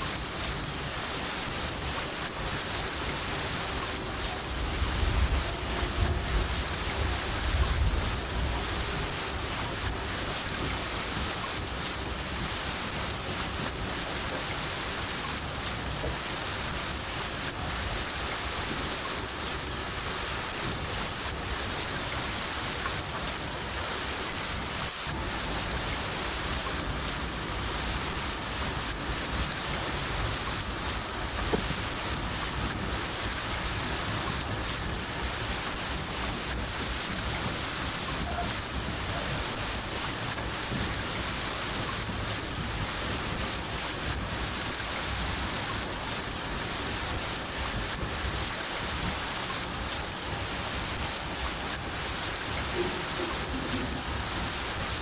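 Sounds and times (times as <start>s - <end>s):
crickets chirping: 0.0s - 55.0s
rain hissing: 0.0s - 55.0s.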